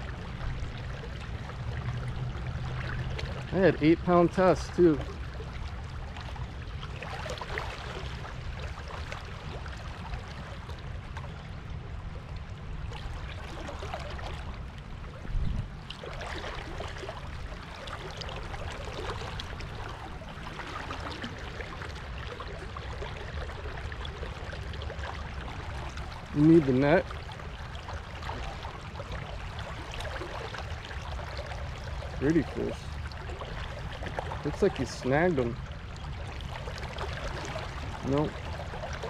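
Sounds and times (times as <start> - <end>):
river water running: 0.0 - 39.0.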